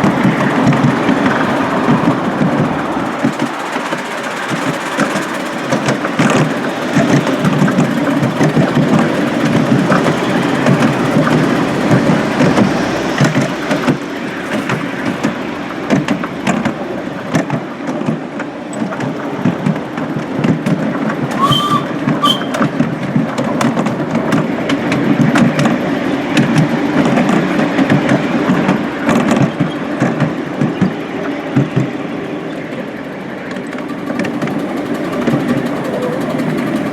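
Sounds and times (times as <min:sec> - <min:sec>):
miniature locomotive rumbling: 0:00.0 - 0:36.9.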